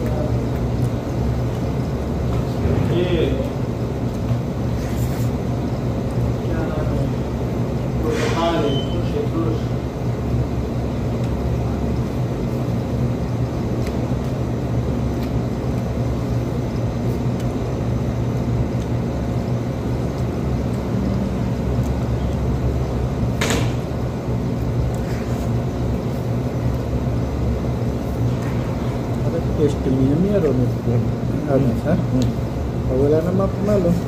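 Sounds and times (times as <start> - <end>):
low machinery hum: 0.0 - 34.0.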